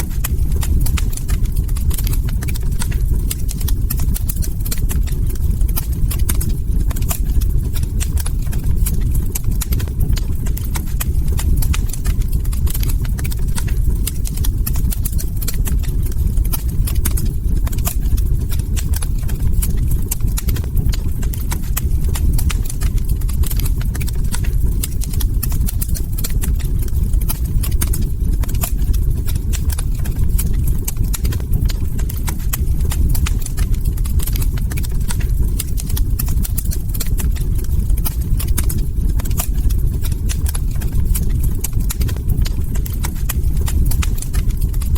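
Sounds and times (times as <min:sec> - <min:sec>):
log fire crackling: 0:00.0 - 0:44.9.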